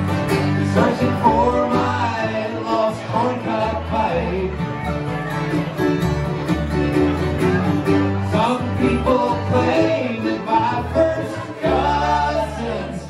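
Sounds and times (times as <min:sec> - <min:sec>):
accordion: 0:00.0 - 0:13.0
banjo: 0:00.0 - 0:13.0
mandolin: 0:00.0 - 0:13.0
strummed acoustic guitar: 0:00.0 - 0:13.0
upright bass pulsing: 0:00.0 - 0:13.0.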